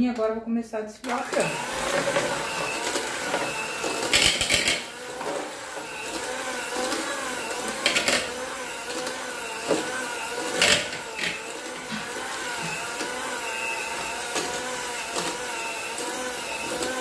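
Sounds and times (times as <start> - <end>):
electric hand mixer running: 1.0 - 17.0.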